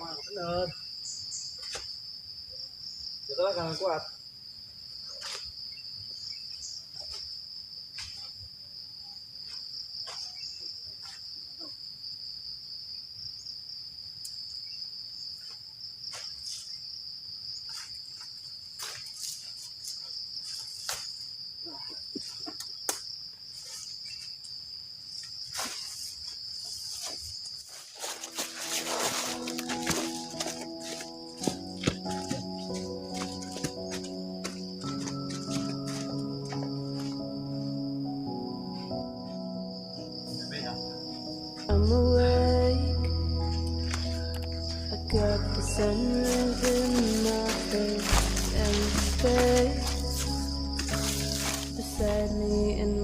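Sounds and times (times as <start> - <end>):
crickets chirring: 0.0 - 53.0.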